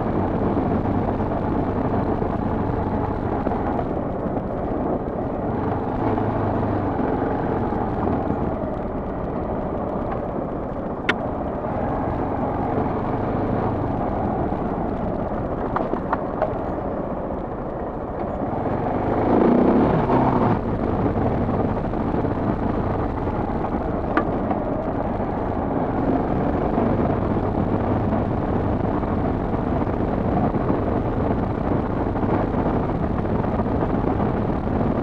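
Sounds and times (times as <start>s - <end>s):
motorcycle engine running: 0.0s - 35.0s
wind noise on microphone: 0.0s - 35.0s.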